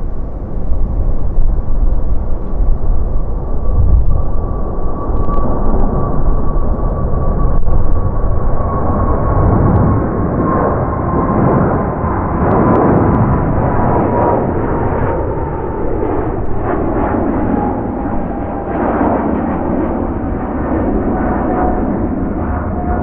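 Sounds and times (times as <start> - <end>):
jet engine rumble and whine: 0.0 - 23.0.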